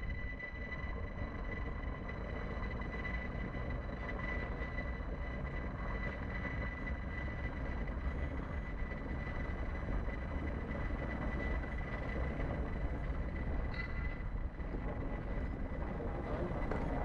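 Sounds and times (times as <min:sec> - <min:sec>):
electric train low rumble: 0:00.0 - 0:17.0.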